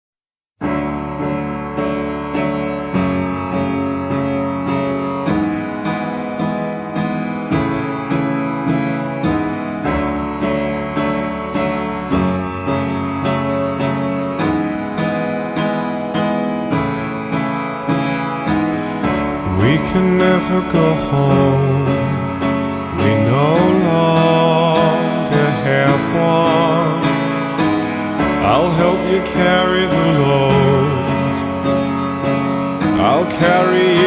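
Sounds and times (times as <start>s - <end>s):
piano chords: 0.6s - 34.0s.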